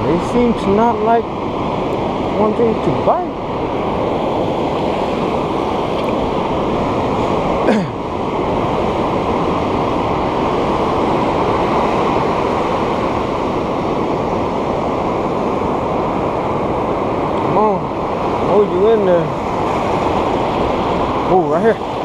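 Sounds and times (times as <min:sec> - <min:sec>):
ocean surf on beach: 0:00.0 - 0:22.0
wind on microphone: 0:00.0 - 0:22.0.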